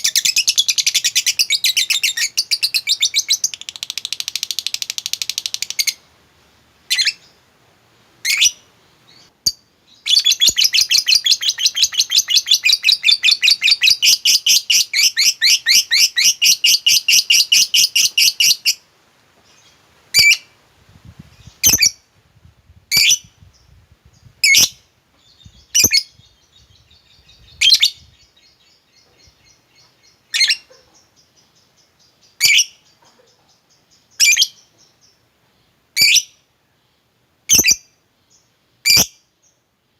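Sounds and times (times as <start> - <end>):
lovebird chirping and trilling: 0.0 - 6.1, 6.9 - 7.4, 8.2 - 18.8, 19.5 - 20.5, 21.3 - 22.1, 22.9 - 35.2, 36.0 - 36.4, 37.5 - 38.0, 38.8 - 39.2.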